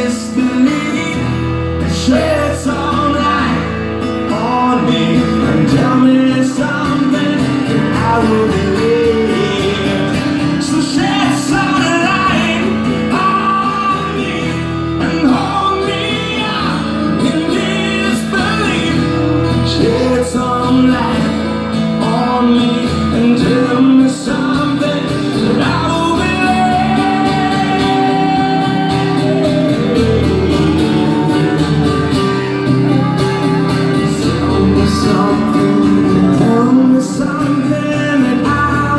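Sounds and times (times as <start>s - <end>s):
guitar playing: 0.0s - 38.9s
man singing: 0.0s - 38.9s.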